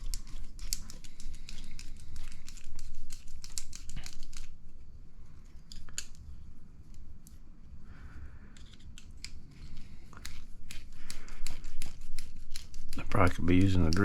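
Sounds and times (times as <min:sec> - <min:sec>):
plastic parts clicking and crinkling: 0:00.0 - 0:04.8, 0:05.4 - 0:07.4, 0:08.5 - 0:14.0.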